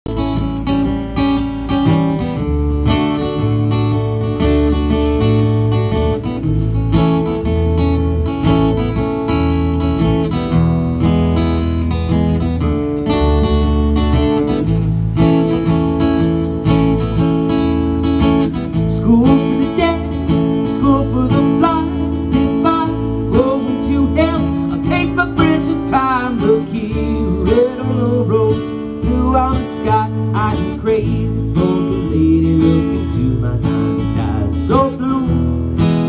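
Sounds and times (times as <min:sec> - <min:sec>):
electric bass guitar: 0:00.0 - 0:36.0
acoustic guitar strumming chords: 0:00.1 - 0:36.0.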